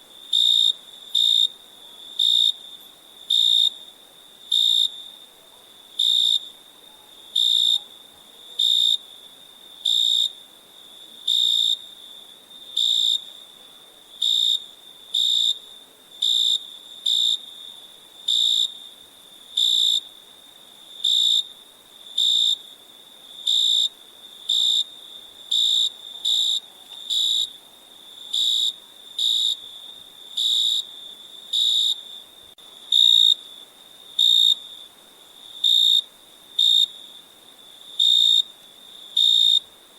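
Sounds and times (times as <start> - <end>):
cricket chirps: 0.0 - 39.9
faint cricket trill: 0.0 - 39.9.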